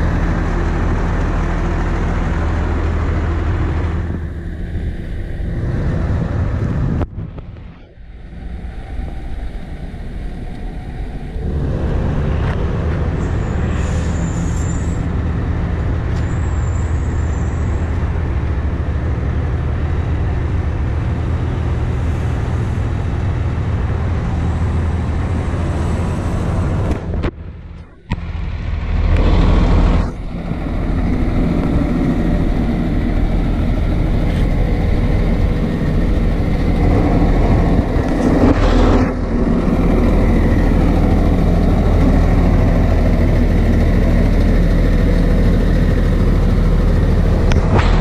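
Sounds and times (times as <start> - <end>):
diesel truck engine idling: 0.0 - 48.0.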